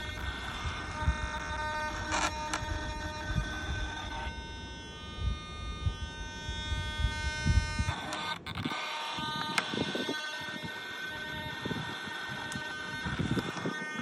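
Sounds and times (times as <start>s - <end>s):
servos whining: 0.0s - 14.0s.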